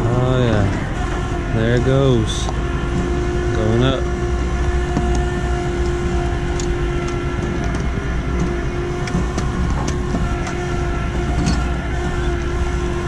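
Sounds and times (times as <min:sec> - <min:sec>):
truck engine rumbling: 0:00.0 - 0:13.0
winch whining: 0:00.0 - 0:13.0.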